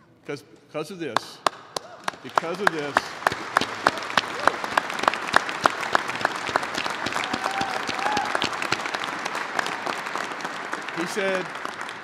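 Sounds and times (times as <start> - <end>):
loud close hand claps: 1.2 - 12.0
crowd applauding: 1.4 - 12.0.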